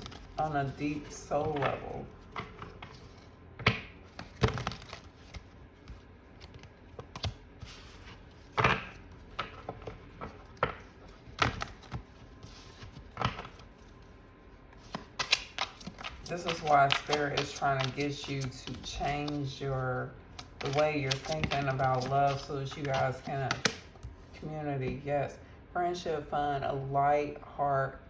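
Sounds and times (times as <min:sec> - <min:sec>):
cards rustling: 0:00.0 - 0:03.4, 0:04.0 - 0:24.5.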